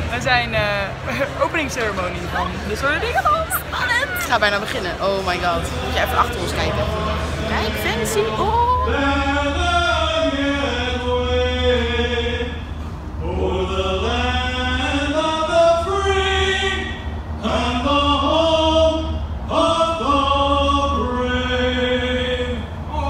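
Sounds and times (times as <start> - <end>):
steady low hum: 0.0 - 23.0
voices singing a cappella: 0.5 - 23.0.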